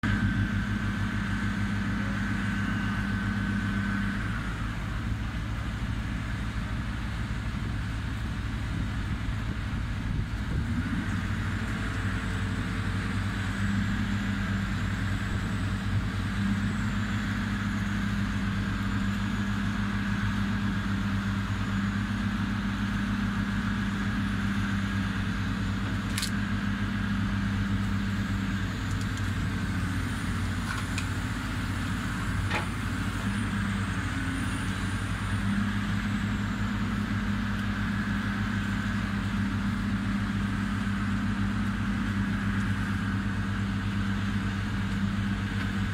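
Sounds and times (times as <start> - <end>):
excavator diesel engine running: 0.0 - 45.9
hydraulic whine: 0.0 - 45.9.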